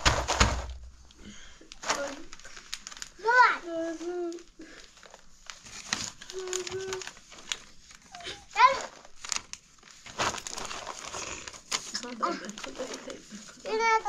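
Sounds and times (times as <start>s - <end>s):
crinkling and rustling handling noise: 0.0s - 14.0s.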